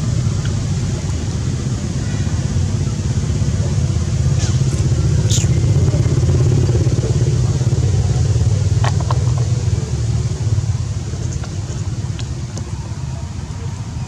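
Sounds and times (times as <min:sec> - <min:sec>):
low motor rumble: 0:00.0 - 0:14.0.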